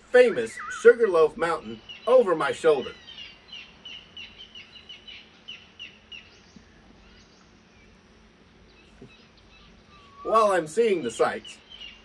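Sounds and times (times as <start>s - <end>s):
faint steady hiss: 0.0s - 12.0s
bird chirping: 0.1s - 12.0s.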